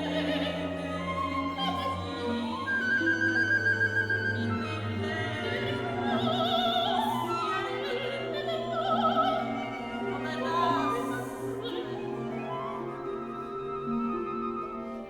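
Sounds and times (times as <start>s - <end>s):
orchestral accompaniment: 0.0s - 15.0s.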